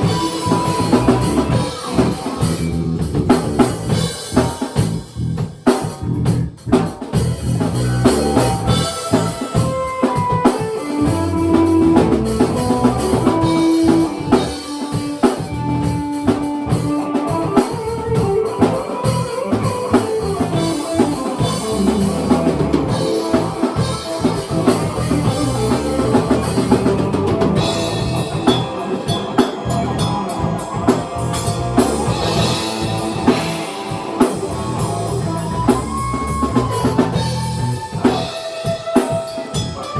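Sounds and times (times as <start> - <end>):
drum kit beat: 0.0 - 39.9
guitar: 0.0 - 39.9.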